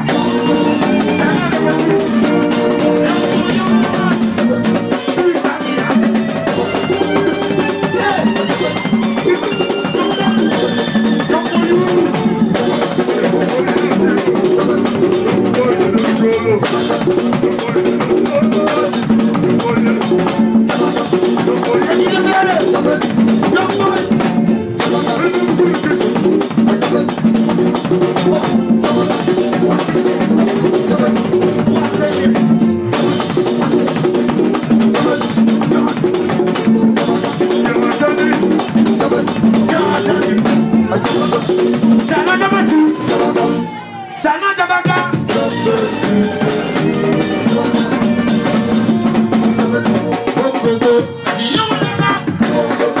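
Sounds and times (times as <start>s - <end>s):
live band music: 0.0s - 53.0s.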